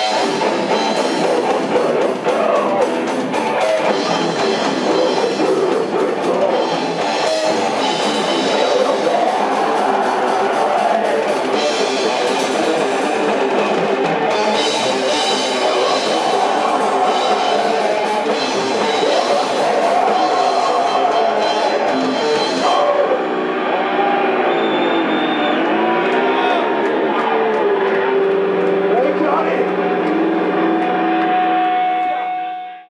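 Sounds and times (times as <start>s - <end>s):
rock music: 0.0s - 32.9s.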